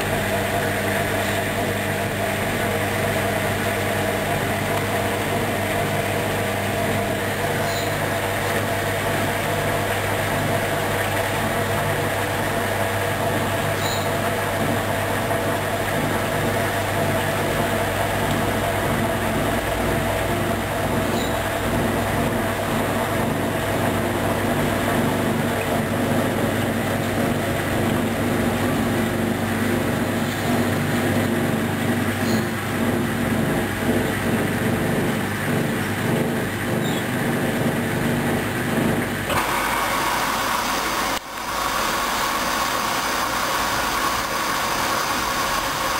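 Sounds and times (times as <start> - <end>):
washing machine motor humming: 0.0 - 45.9.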